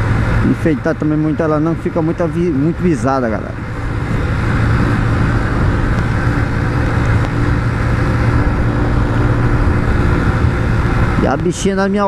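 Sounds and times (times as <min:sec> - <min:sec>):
motorcycle engine running: 0:00.0 - 0:12.0
road noise rushing: 0:00.0 - 0:12.0.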